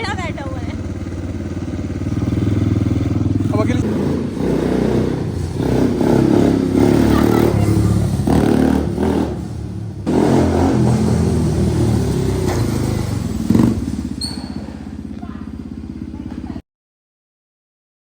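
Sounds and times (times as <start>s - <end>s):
quad engine revving: 0.0s - 16.6s.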